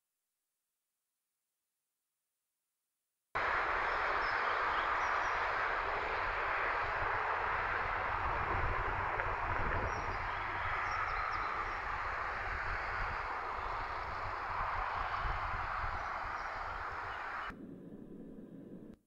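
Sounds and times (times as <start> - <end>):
outdoor rushing ambience: 3.4 - 19.0
unsteady low rumble: 3.4 - 19.0.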